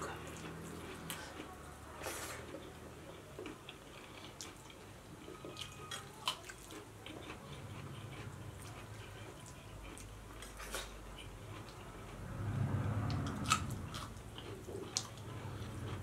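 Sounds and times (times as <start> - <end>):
mouths chewing: 0.0 - 16.0.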